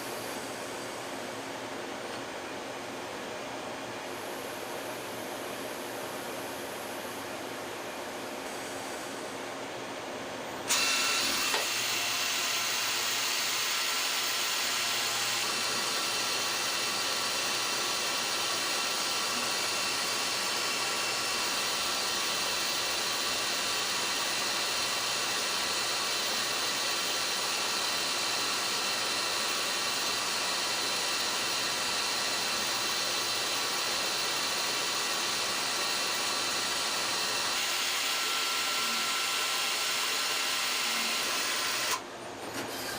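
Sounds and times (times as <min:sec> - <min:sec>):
lathe machining whir and hiss: 0:00.0 - 0:42.9.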